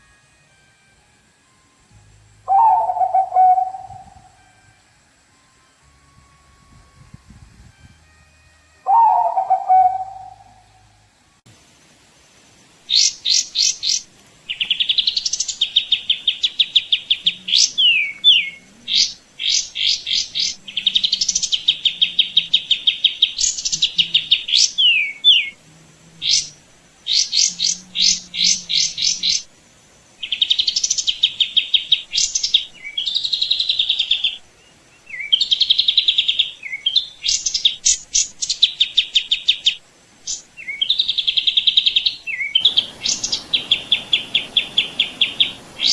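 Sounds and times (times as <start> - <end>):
songbird chirping and trilling: 1.9 - 4.8, 8.8 - 11.1, 12.8 - 45.9.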